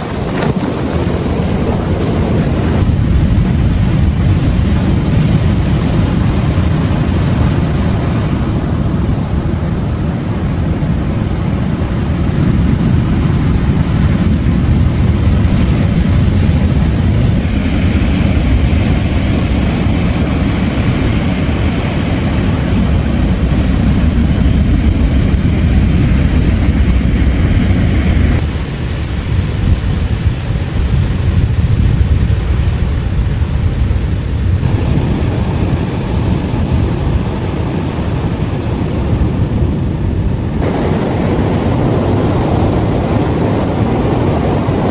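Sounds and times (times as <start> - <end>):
surf roaring: 0.0 - 44.9.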